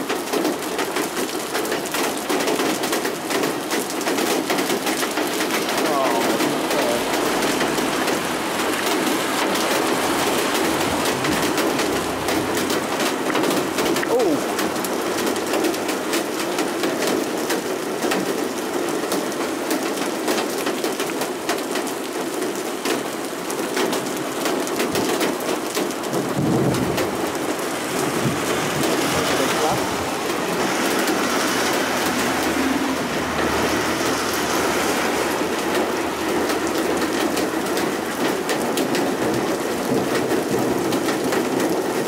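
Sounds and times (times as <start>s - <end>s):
heavy rain on pavement: 0.0s - 42.0s.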